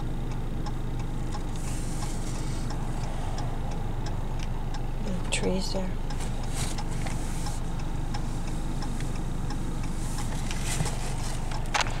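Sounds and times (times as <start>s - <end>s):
car cabin low hum: 0.0s - 12.0s
faint regular ticking: 0.0s - 12.0s.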